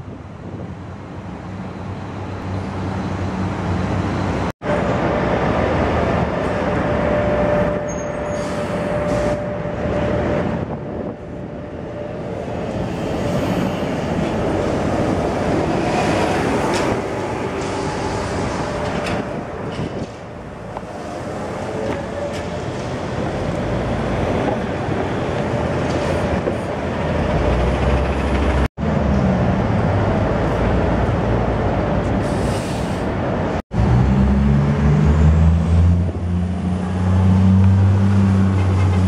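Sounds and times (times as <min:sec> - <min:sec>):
city street traffic: 0:00.0 - 0:39.0
trolleybuses pulling past: 0:00.0 - 0:39.0.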